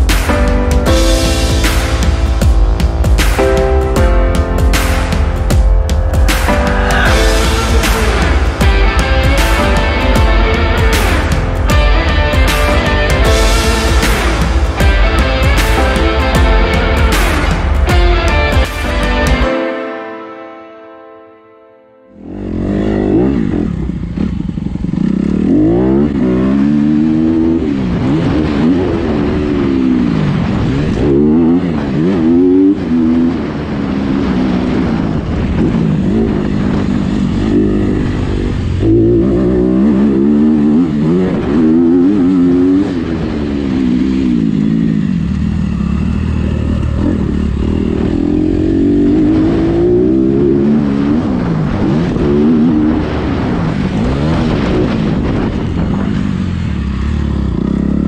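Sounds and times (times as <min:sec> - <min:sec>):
motocross bike engine revving: 0:06.3 - 0:19.5, 0:22.2 - 0:58.0.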